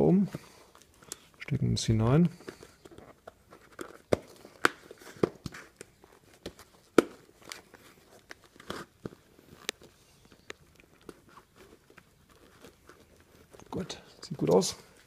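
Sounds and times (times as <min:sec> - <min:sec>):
helmet liner clicks and rustles: 0:00.2 - 0:01.6, 0:02.3 - 0:15.0.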